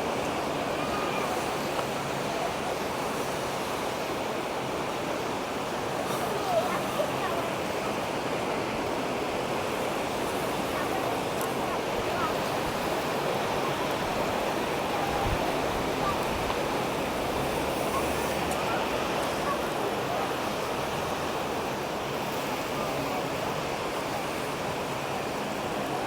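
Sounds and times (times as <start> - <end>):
sea surf rushing: 0.0 - 26.0.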